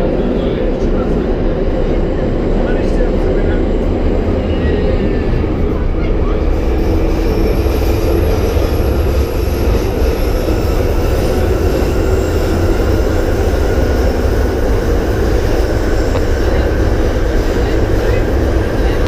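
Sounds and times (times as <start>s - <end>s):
underground train rumble: 0.0s - 19.0s.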